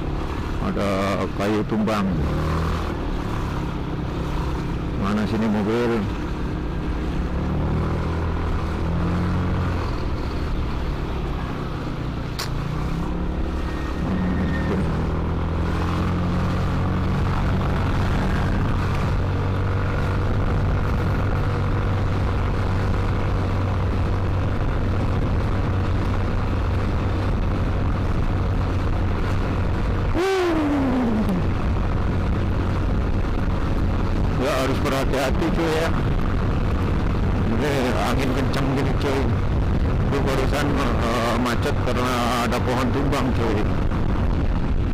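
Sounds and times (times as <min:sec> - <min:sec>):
road and traffic noise: 0:00.0 - 0:44.9.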